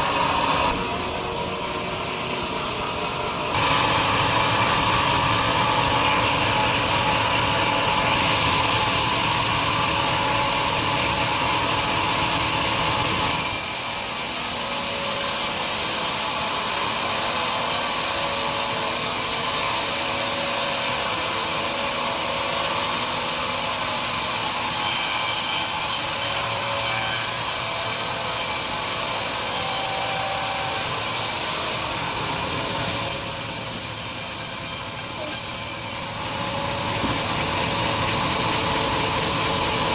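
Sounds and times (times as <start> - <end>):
band saw cutting through log: 0.0 - 39.9.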